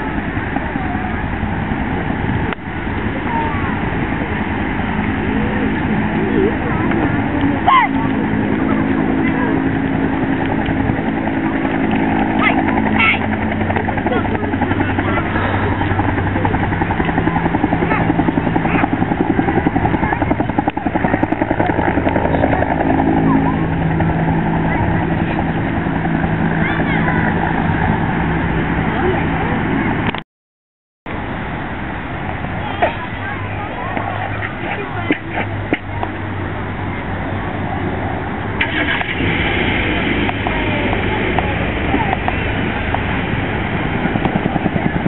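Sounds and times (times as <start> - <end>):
aircraft flying low overhead: 0.0 - 30.2, 31.1 - 45.0
engine drone: 0.0 - 30.2, 31.1 - 45.0.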